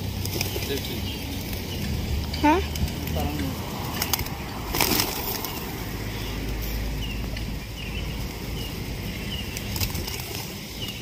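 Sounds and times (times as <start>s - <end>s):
pigeons flapping wings: 0.0s - 6.0s, 8.1s - 11.0s.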